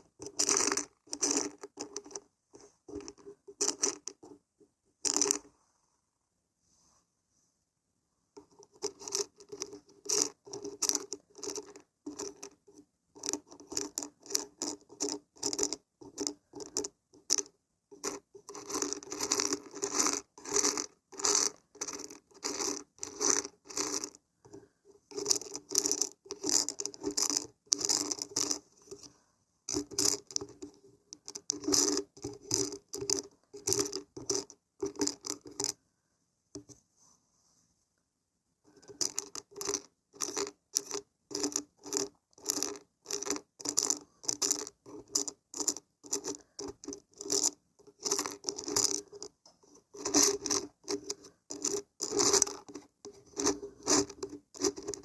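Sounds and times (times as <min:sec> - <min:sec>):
beans rattling when shaken: 0:00.0 - 0:02.2, 0:02.9 - 0:04.4, 0:05.0 - 0:05.4, 0:08.5 - 0:12.6, 0:13.2 - 0:24.2, 0:25.1 - 0:29.0, 0:29.7 - 0:35.8, 0:38.7 - 0:55.0.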